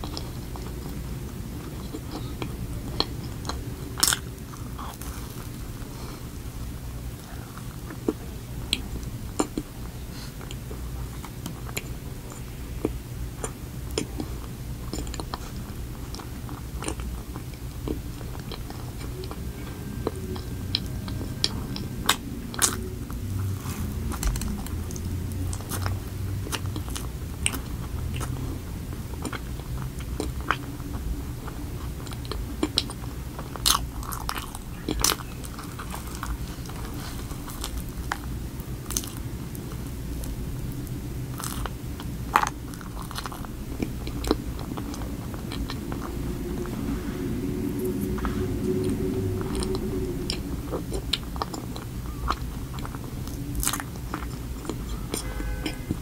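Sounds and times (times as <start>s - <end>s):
cookie crunching and chewing: 0.0s - 46.1s, 49.4s - 55.9s
low steady hum: 0.0s - 56.0s.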